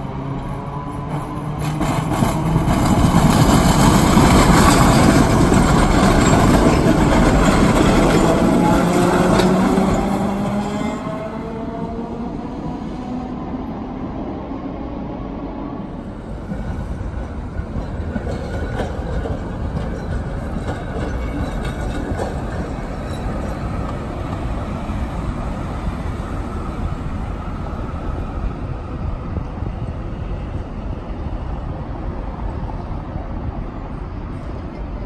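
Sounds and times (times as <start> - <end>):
tram rumbling on rails: 0.0 - 35.0.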